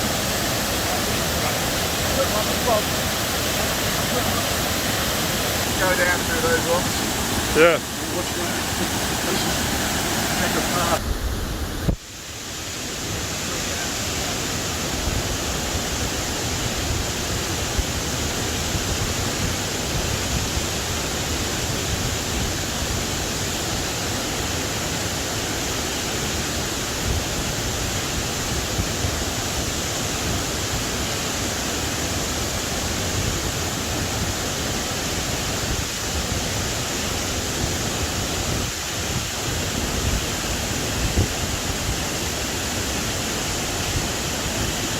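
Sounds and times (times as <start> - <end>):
creek water rushing over rocks: 0.0 - 44.9.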